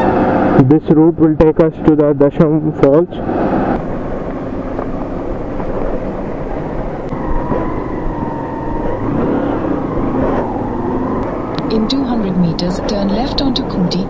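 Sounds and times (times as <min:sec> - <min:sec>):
motorcycle engine drone: 0:00.0 - 0:14.0
wind rushing over microphone: 0:02.7 - 0:14.0.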